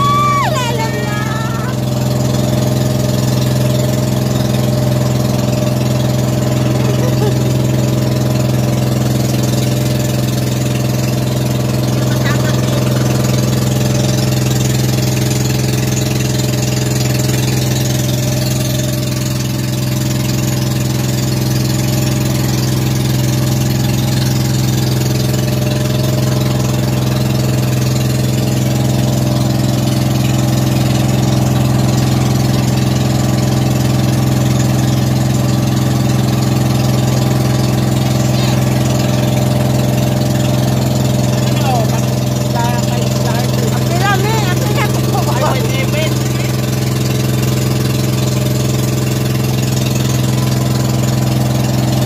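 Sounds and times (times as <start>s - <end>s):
boat engine humming: 0.0s - 52.0s.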